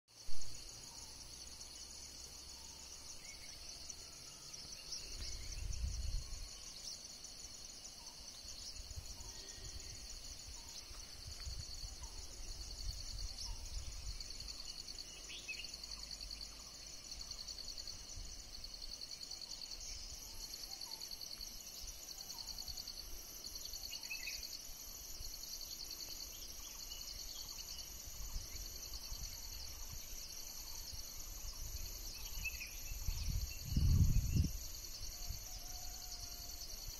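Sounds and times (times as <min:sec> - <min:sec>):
insects droning: 0:00.1 - 0:36.9.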